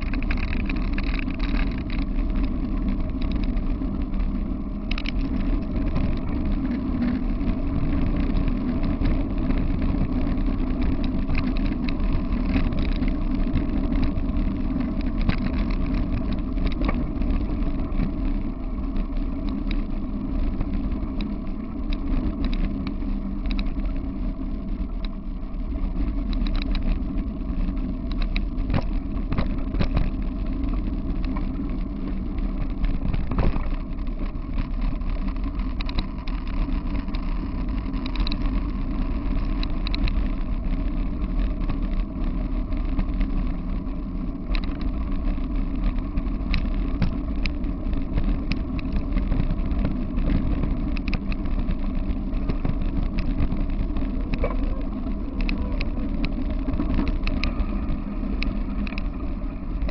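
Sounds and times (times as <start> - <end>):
clicks and rattles: 0.0 - 24.0, 25.9 - 42.1, 44.4 - 59.9
wheels rolling over dirt: 0.0 - 59.9
wind on microphone: 0.0 - 59.9.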